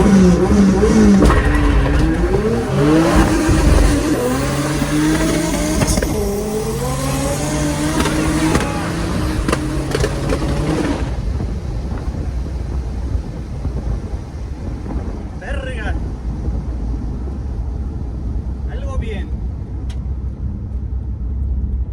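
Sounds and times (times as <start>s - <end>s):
drag car engines accelerating: 0.0s - 21.9s.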